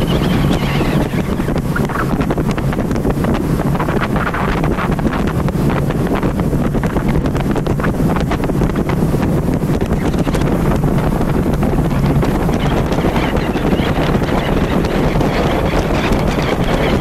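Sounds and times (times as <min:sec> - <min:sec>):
motorboat engine drone: 0:00.0 - 0:17.0
water rushing past hull: 0:00.0 - 0:17.0
wind buffeting microphone: 0:00.0 - 0:17.0.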